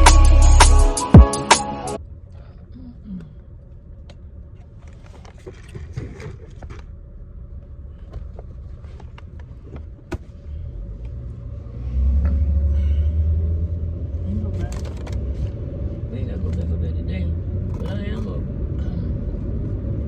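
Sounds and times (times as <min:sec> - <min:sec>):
car rumble inside cabin: 0:02.0 - 0:20.0.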